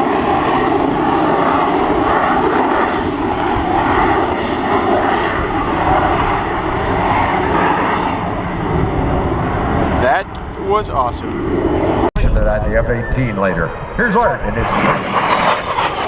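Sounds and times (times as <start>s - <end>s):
jet engine roaring: 0.0s - 16.0s.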